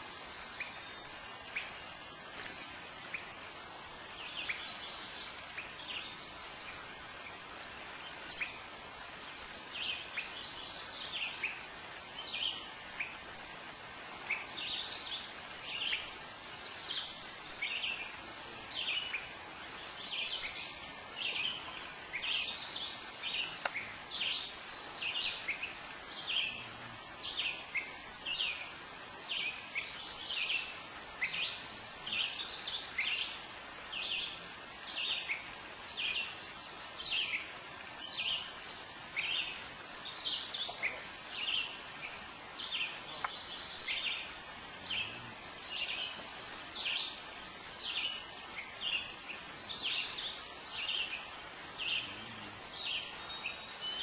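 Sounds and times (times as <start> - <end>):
faint background hiss: 0.0 - 54.0
songbirds chirping: 0.0 - 54.0.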